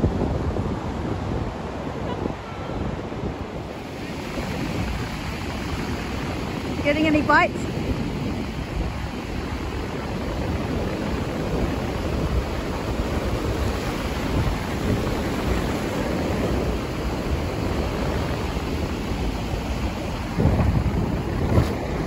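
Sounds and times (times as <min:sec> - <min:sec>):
surf washing up beach: 0:00.0 - 0:22.0
wind rumbling on microphone: 0:00.0 - 0:22.0.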